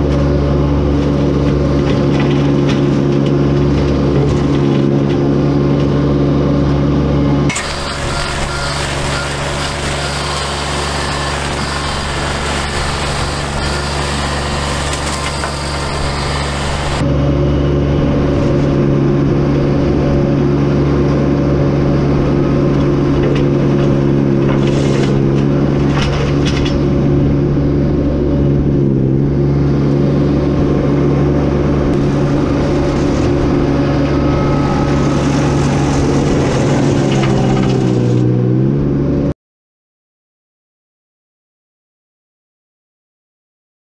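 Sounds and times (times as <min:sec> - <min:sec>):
flail mower: 0:00.0 - 0:39.3
skid steer engine running: 0:00.0 - 0:39.3.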